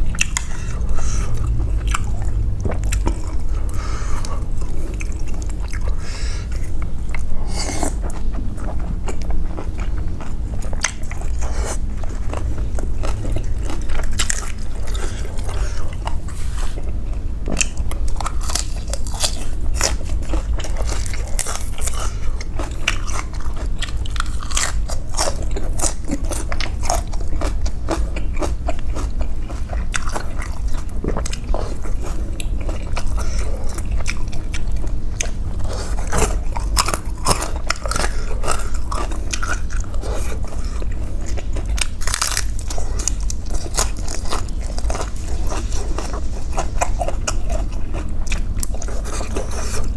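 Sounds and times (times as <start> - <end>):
low steady hum: 0.0 - 49.9
person chewing noodle soup: 0.0 - 49.9.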